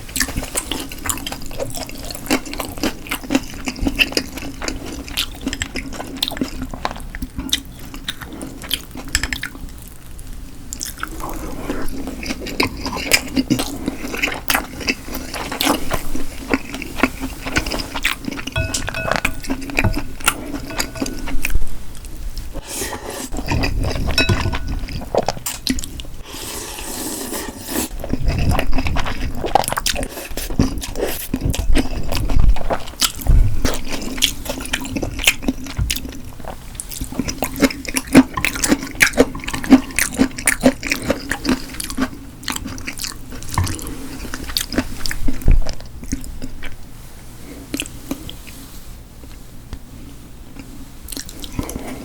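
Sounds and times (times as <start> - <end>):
chewing and wet mouth sounds: 0.0 - 10.0, 10.7 - 22.6, 23.3 - 26.2, 27.9 - 46.8, 47.4 - 48.6, 50.5 - 52.0.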